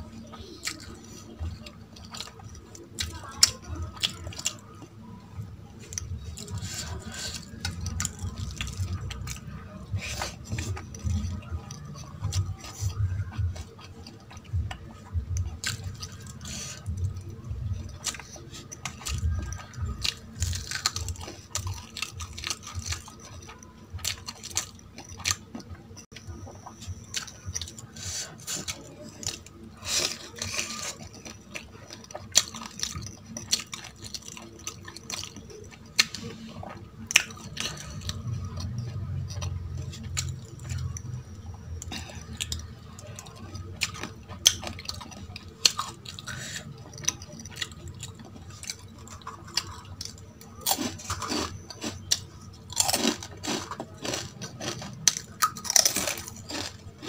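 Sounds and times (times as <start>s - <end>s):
person chewing food: 0.0s - 57.0s
food crunch: 0.2s - 5.1s, 5.7s - 57.0s.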